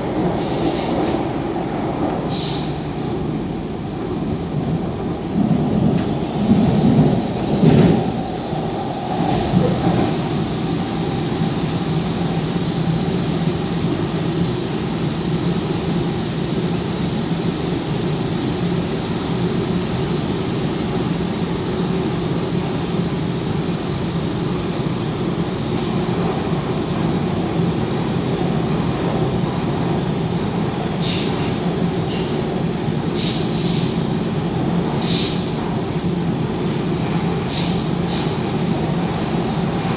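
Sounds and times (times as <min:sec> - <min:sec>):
train wheels rumbling on rail: 0:00.0 - 0:39.9
high-pitched whine: 0:02.3 - 0:39.9.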